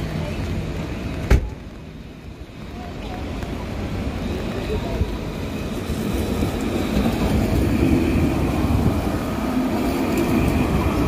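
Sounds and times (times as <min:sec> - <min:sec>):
heavy rain hiss: 0:00.0 - 0:11.0
street noise rumble: 0:00.0 - 0:11.0
wind: 0:00.0 - 0:11.0.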